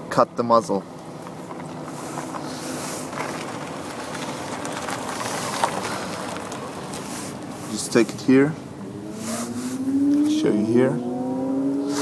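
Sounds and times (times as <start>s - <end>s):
steady rushing outdoor noise: 0.0s - 12.0s.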